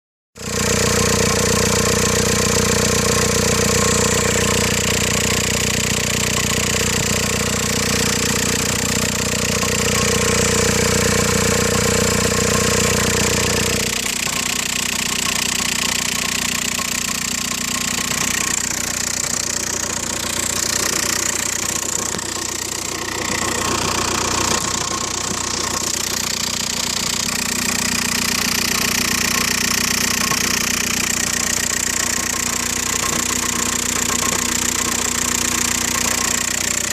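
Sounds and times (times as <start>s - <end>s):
diesel engine idling: 0.4s - 36.9s.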